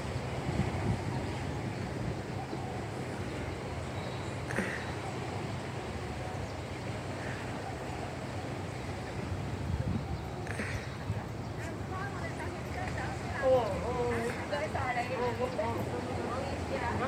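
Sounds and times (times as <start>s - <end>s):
water noise: 0.0s - 17.0s
wind: 0.0s - 17.0s.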